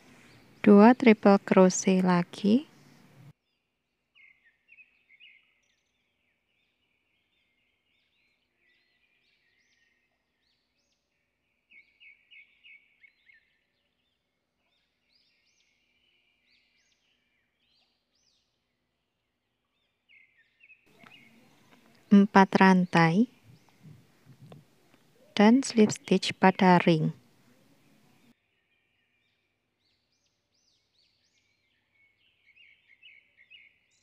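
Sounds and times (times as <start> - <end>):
faint bird chirping: 0.0 - 34.0.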